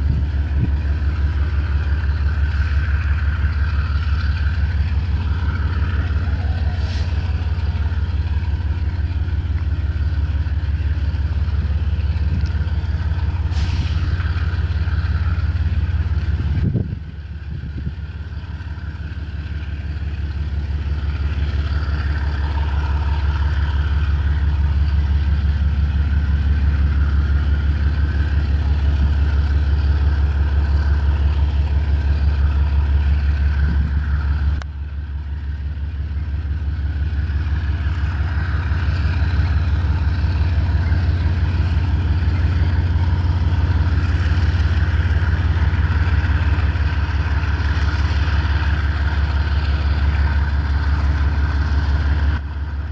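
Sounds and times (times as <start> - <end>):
diesel locomotive engines rumbling: 0.0 - 52.9.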